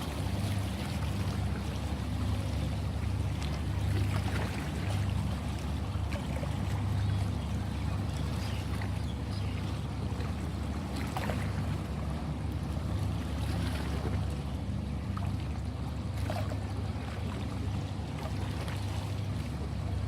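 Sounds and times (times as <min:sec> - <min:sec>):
sea water lapping: 0:00.0 - 0:20.0
small water splashes: 0:00.0 - 0:20.0.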